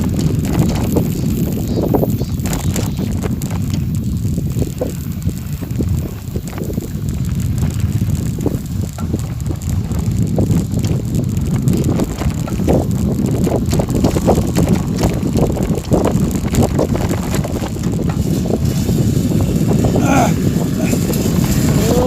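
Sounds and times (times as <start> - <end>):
tyres crunching over gravel: 0.0 - 22.0
wind rumbling on microphone: 0.0 - 22.0.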